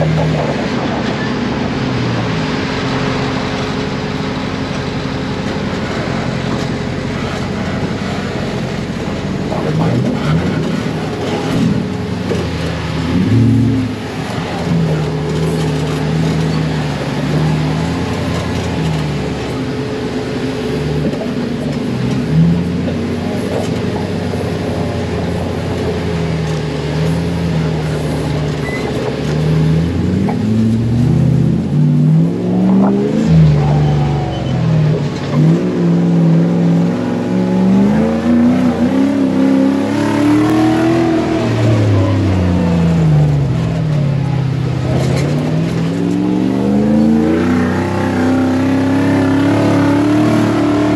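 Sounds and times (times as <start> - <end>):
buggy engine revving: 0.0 - 50.9.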